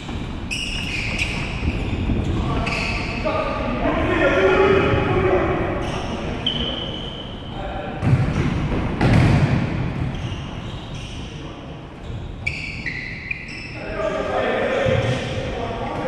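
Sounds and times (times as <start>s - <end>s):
shoes squeaking on floor: 0.0s - 3.8s, 4.6s - 7.8s, 9.9s - 16.0s.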